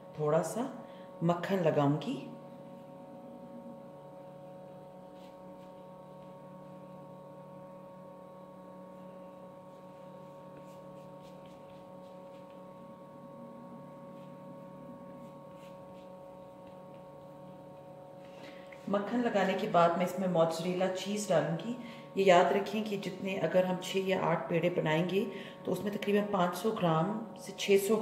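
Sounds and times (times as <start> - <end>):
steady tonal hum: 0.0 - 28.0.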